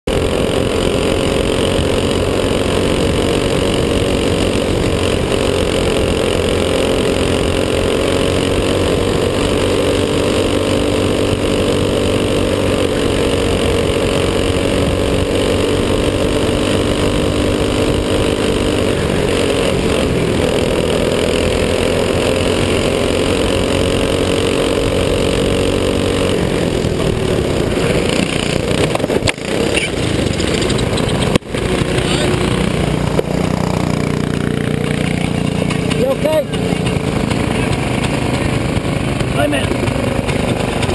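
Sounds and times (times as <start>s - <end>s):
kart engine at high revs: 0.0s - 40.9s
other kart engines: 0.0s - 40.9s.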